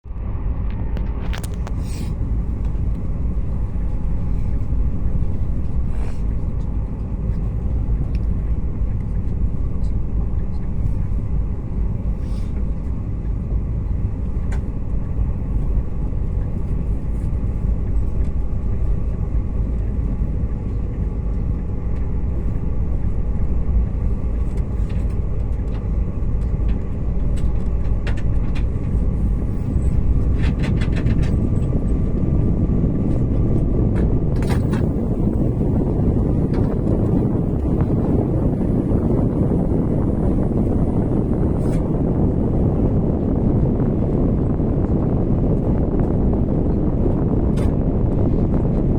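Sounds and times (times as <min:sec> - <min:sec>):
high-speed train low rumble: 0:00.0 - 0:48.9.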